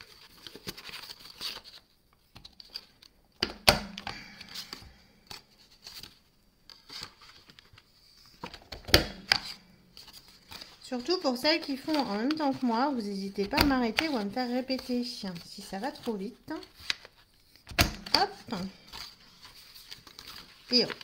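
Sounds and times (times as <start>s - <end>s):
card stock rustling: 0.0s - 3.1s, 3.8s - 21.0s.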